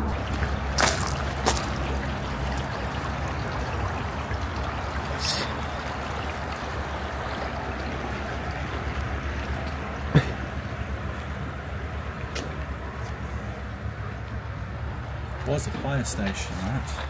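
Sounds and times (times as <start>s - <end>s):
lake water lapping at shore: 0.0s - 17.0s.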